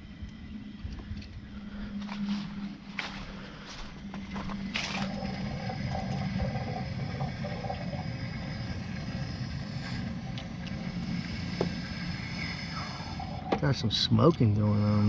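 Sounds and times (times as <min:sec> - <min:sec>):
water rushing through pipes: 0:00.0 - 0:15.0.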